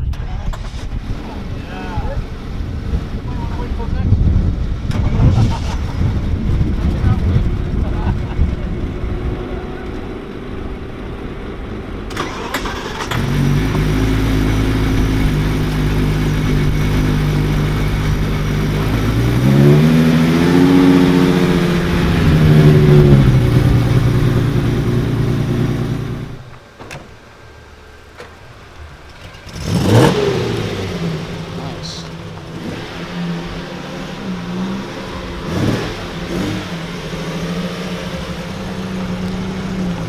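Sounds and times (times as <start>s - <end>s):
car engine starting and revving: 0.0s - 40.0s.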